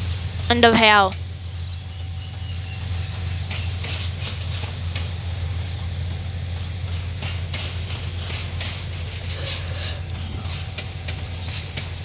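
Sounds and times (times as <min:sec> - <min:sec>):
locomotive engine drone: 0:00.0 - 0:12.0.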